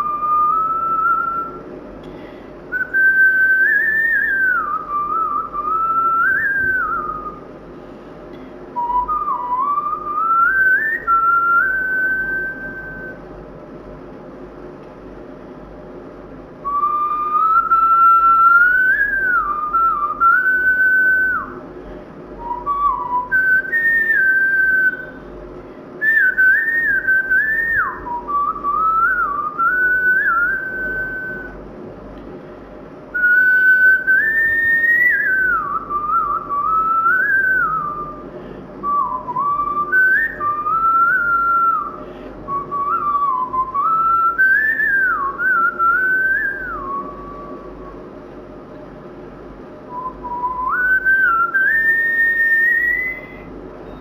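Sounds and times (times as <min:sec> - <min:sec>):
person whistling a melody: 0:00.0 - 0:01.7, 0:02.7 - 0:07.5, 0:08.7 - 0:13.2, 0:16.6 - 0:21.6, 0:22.4 - 0:25.2, 0:26.0 - 0:31.6, 0:33.1 - 0:48.0, 0:49.9 - 0:54.0.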